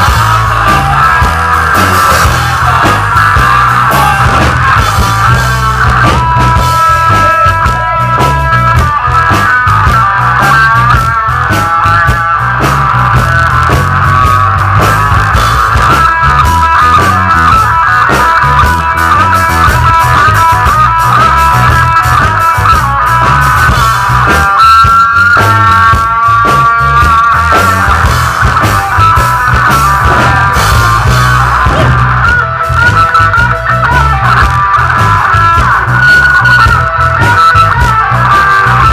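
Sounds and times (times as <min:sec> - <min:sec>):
electric guitar lines: 0:00.0 - 0:38.9
live rock band playing: 0:00.0 - 0:38.9.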